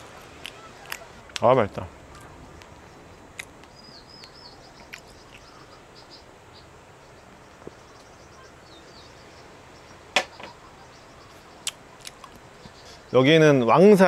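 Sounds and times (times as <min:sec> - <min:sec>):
small bird chirping: 0:00.0 - 0:13.7
sea breeze and surf: 0:00.0 - 0:14.0.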